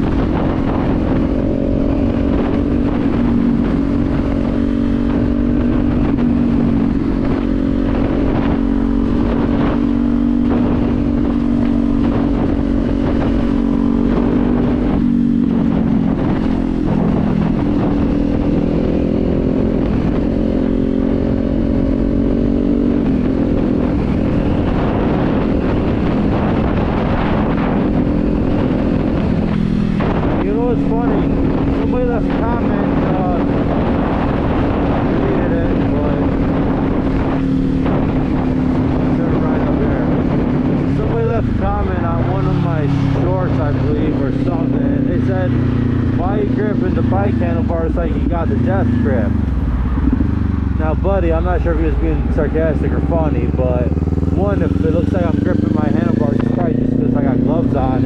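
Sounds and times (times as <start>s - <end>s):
motorcycle engine running: 0.0s - 58.0s
wind rushing: 0.0s - 58.0s.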